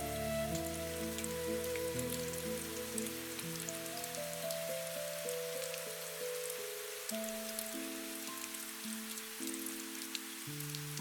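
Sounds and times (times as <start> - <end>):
raindrop ticks: 0.0 - 11.0
soft slow piano music: 0.0 - 11.0
steady rain: 0.0 - 11.0.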